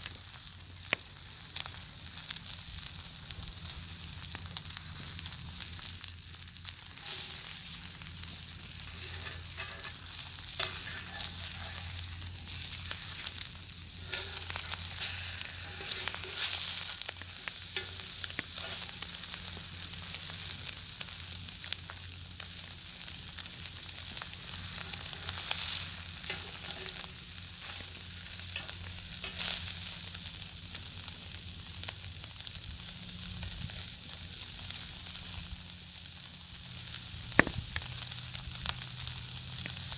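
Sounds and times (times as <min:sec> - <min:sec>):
bacon sizzling with pops: 0:00.0 - 0:39.9.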